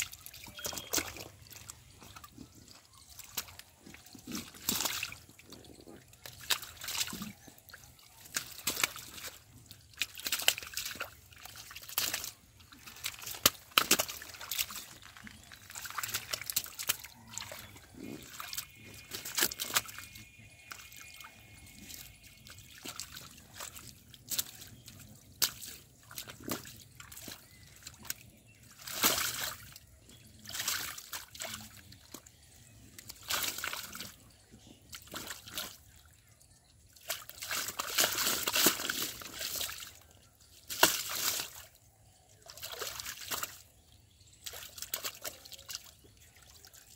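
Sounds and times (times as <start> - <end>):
splashing of shallow water: 0.0 - 46.9.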